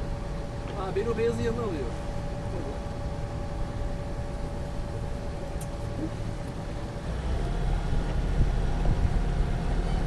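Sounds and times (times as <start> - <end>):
boat engine rumbling: 0.0 - 10.0.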